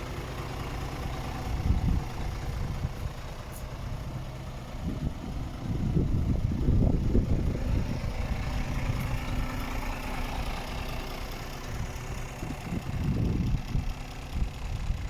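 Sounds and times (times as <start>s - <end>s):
diesel engine idling: 0.0s - 15.0s
low rumbling buffets: 0.0s - 15.0s.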